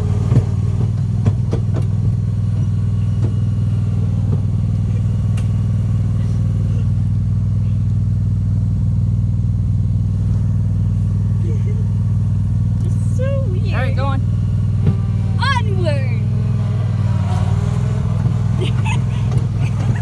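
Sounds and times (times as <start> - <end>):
lawnmower engine running: 0.0 - 20.0.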